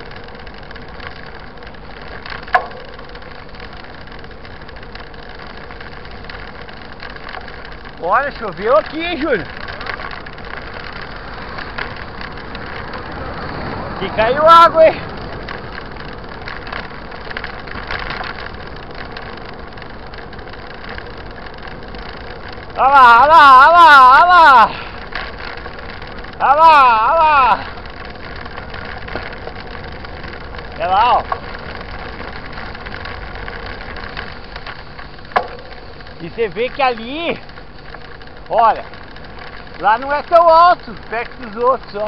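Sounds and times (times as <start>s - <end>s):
bicycle tyres on asphalt: 0.0s - 42.0s
bike rattling over rough road: 0.0s - 42.0s.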